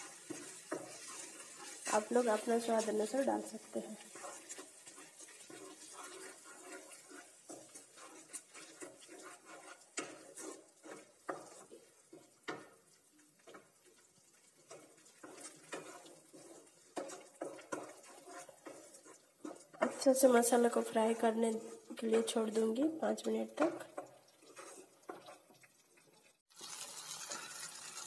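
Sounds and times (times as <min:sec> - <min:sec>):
spatula scraping a pan: 0:00.0 - 0:25.8, 0:26.6 - 0:28.0.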